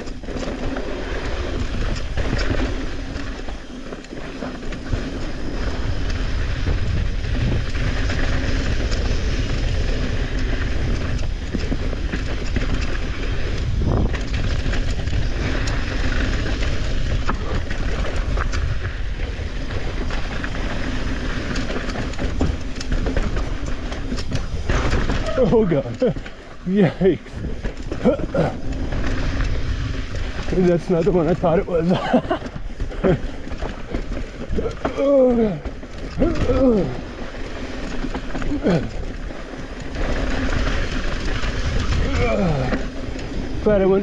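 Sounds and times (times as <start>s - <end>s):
bike clattering: 0.0s - 44.0s
tyres rolling over dirt and rocks: 0.0s - 44.0s
wind rumble on microphone: 0.0s - 44.0s.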